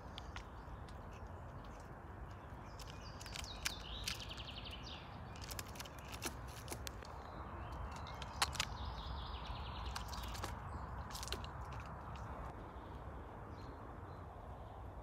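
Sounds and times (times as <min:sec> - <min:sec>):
squirrel claws scratching bark: 0:00.0 - 0:12.5.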